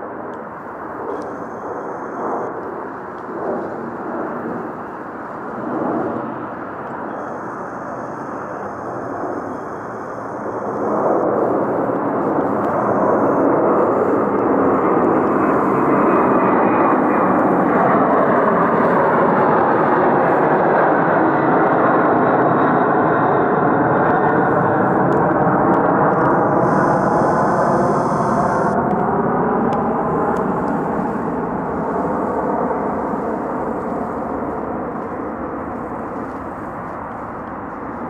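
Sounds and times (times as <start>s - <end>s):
loud jet rumble: 0.0s - 38.0s.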